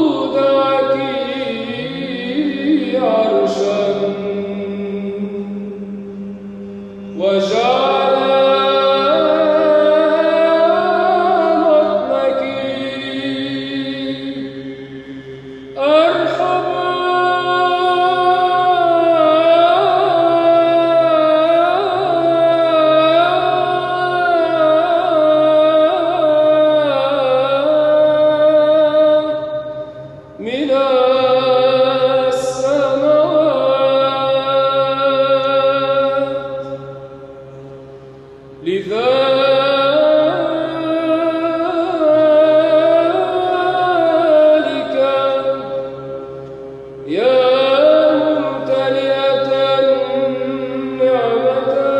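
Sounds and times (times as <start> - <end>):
held vocal drone: 0.0 - 51.9
man chanting melismatic line: 0.0 - 51.9.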